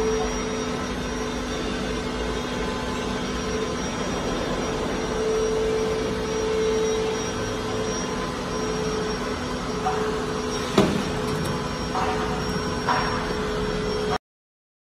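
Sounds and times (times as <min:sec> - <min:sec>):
machinery hum and fan noise: 0:00.0 - 0:14.2.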